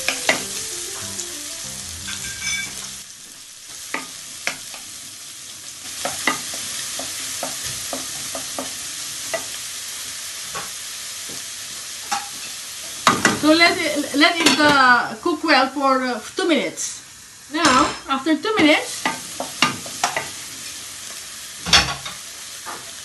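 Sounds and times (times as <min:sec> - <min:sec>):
onion sizzling in oil: 0:00.0 - 0:23.0.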